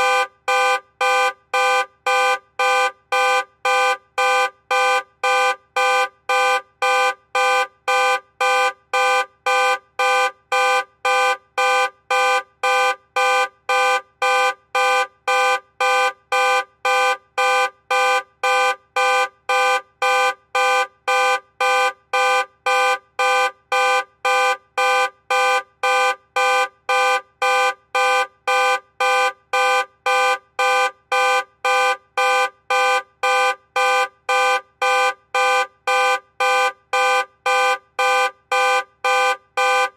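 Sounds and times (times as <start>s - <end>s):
car alarm honking: 0.0s - 39.9s.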